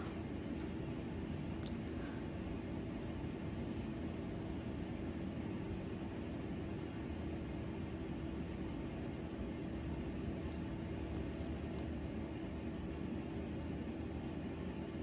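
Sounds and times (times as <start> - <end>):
low hum with held tone: 0.0 - 15.0.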